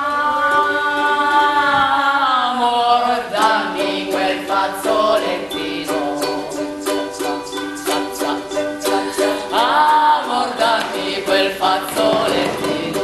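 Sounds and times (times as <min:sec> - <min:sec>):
ukuleles strumming: 0:00.0 - 0:13.0
women singing together: 0:00.0 - 0:13.0.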